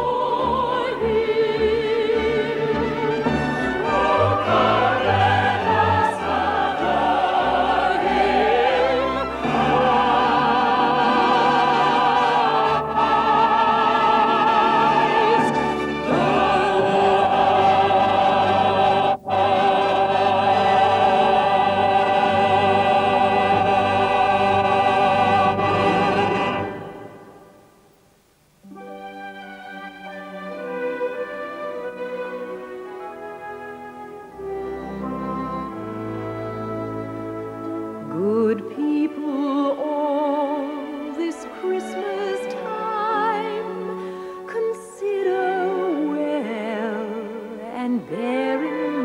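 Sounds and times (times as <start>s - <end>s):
choir: 0.0s - 27.6s, 34.3s - 49.0s
operatic singing: 0.0s - 27.7s, 34.3s - 49.0s
orchestra: 0.0s - 27.7s, 28.6s - 49.0s.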